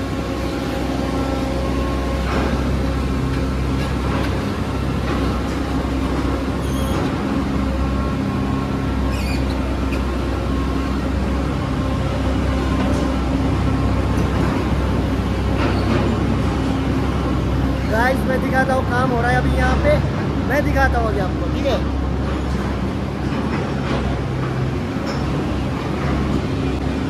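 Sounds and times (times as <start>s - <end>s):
heavy machinery droning: 0.0s - 27.0s.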